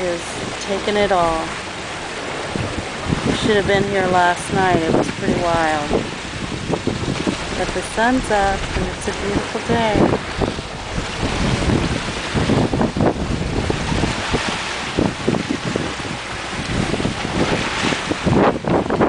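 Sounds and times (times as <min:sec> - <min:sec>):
ocean water rushing past yacht: 0:00.0 - 0:19.0
wind buffeting microphone: 0:00.0 - 0:19.0.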